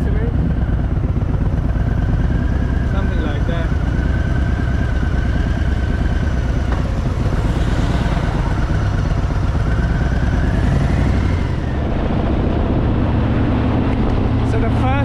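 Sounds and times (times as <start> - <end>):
higher engine tone: 0.0 - 15.0
motorcycle engine running: 0.0 - 15.0.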